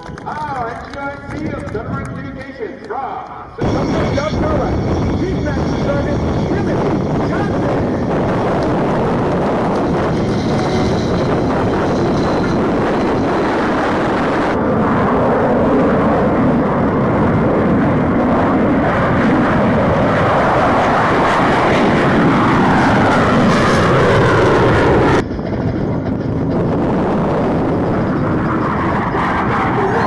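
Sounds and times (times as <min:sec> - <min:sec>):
jet engine roar: 0:00.0 - 0:30.0.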